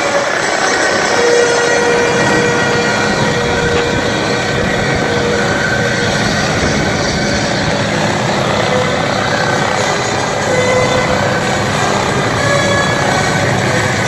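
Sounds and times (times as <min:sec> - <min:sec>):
helicopter rotor and engine: 0:00.0 - 0:14.0
whining tones: 0:00.0 - 0:14.0.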